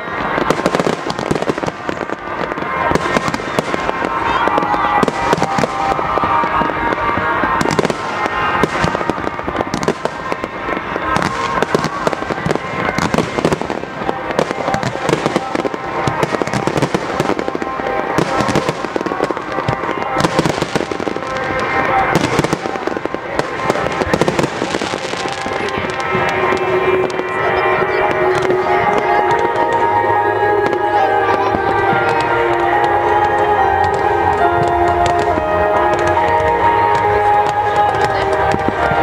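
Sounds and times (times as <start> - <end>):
fireworks bursts and crackles: 0.0 - 39.0.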